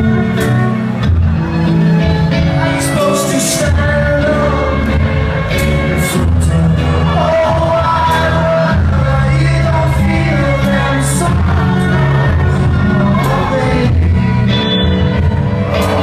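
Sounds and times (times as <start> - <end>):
man singing: 0.0 - 1.0, 2.4 - 16.0
drums: 0.0 - 16.0
electric guitar: 0.0 - 16.0
heavy low bass notes: 0.0 - 16.0.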